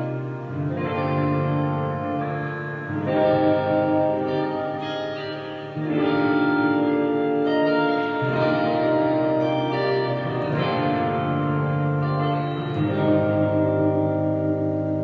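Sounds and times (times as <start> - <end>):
electric guitar sustained chords: 0.0 - 15.0.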